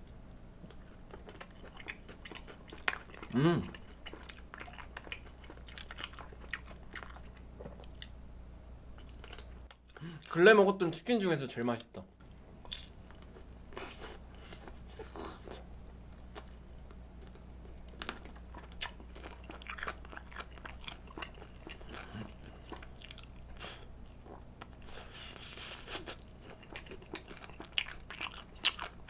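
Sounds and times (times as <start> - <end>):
person chewing crunchy chicken: 0.6 - 8.1, 9.0 - 10.0, 12.6 - 15.7, 16.3 - 29.0.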